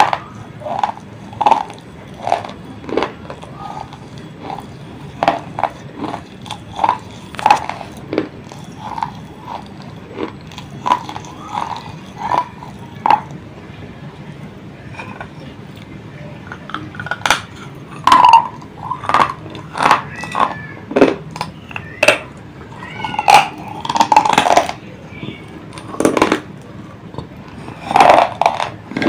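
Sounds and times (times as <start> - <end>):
chewing crunchy clay: 0.0 - 13.4, 14.9 - 29.0.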